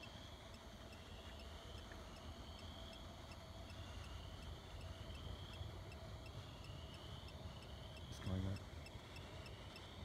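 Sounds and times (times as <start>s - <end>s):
faint high ticking: 0.0s - 10.0s.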